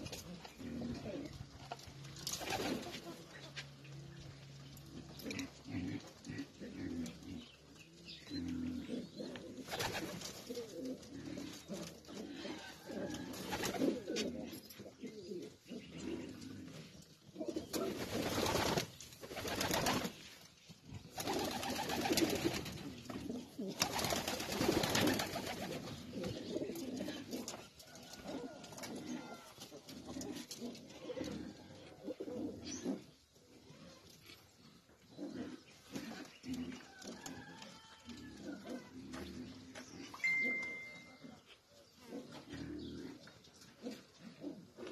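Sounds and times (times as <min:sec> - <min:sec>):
pigeons cooing: 0:00.0 - 0:03.0, 0:04.2 - 0:20.1, 0:21.1 - 0:44.9.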